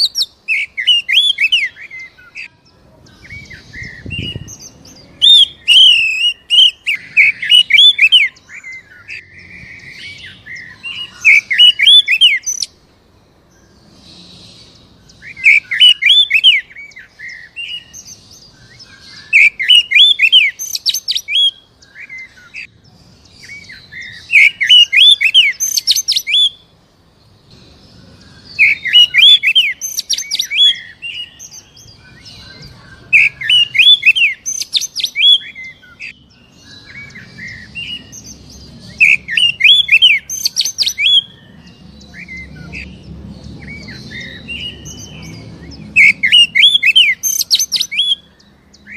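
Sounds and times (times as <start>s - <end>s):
bird singing whistled phrases: 0.0s - 12.7s, 15.1s - 22.8s, 23.4s - 26.6s, 28.4s - 43.0s, 43.6s - 48.9s.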